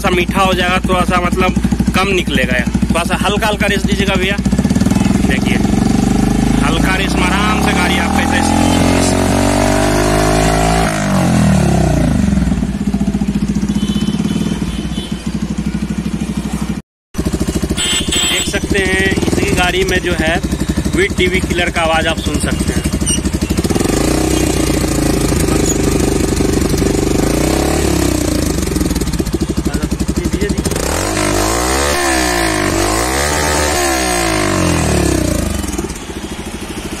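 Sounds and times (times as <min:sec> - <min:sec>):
motorcycle engine revving and idling: 0:00.0 - 0:37.0.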